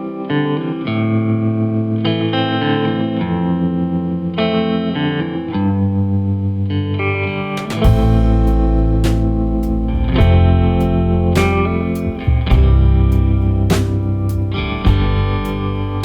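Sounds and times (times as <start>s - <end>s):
guitar with effects playing chords: 0.0s - 16.0s.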